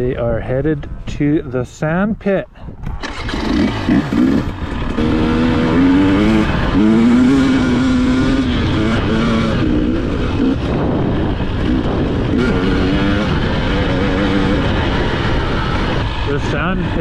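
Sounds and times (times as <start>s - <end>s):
wind rushing: 2.6s - 17.0s
dirt bike engine revving: 2.8s - 17.0s.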